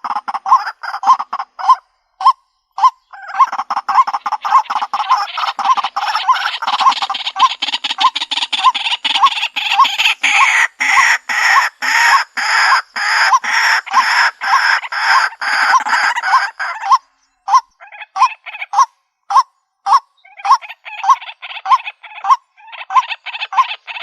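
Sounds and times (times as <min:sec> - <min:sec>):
waterhen calling harsh notes: 0:00.0 - 0:24.0.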